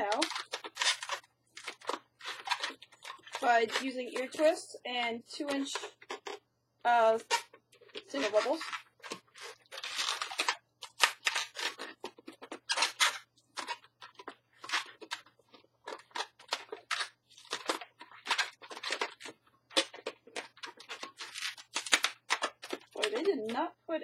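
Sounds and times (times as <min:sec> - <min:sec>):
balloons squeaking and rubbing: 0:00.0 - 0:04.8, 0:05.4 - 0:23.5.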